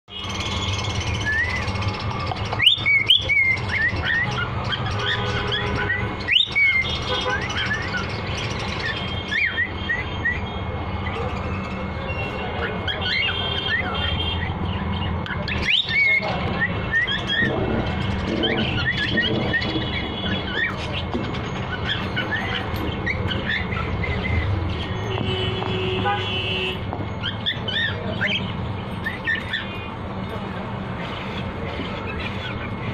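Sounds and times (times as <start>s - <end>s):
cockatiels chirping: 0.1s - 25.6s, 27.2s - 30.0s, 31.0s - 32.9s.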